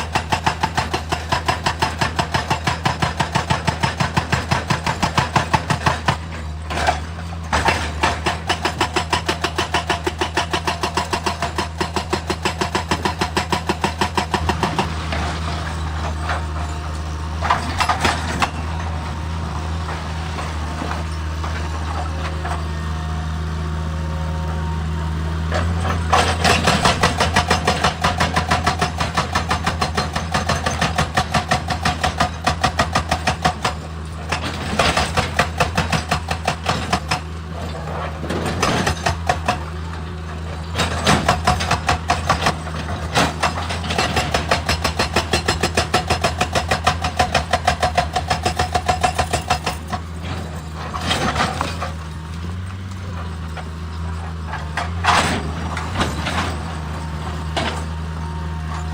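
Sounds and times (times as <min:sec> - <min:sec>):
hydraulic rock breaker hammering: 0:00.0 - 0:23.4, 0:25.4 - 0:58.9
diesel engine running: 0:00.0 - 0:58.9.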